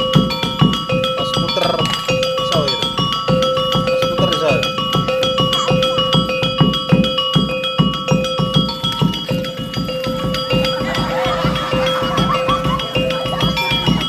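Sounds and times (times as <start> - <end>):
hand drum beating: 0.0 - 14.0
ringing metallic percussion: 0.0 - 14.0
steady held ringing tone: 0.0 - 14.0.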